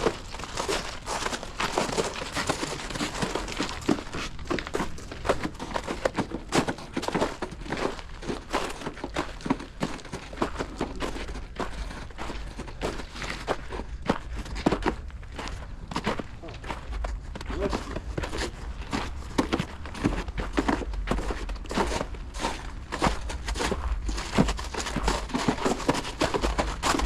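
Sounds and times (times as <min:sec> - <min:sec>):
crunching footsteps: 0:00.0 - 0:27.0.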